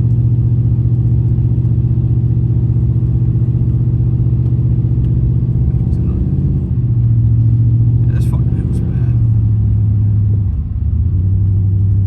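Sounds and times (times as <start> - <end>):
truck engine drone in cab: 0.0 - 12.0.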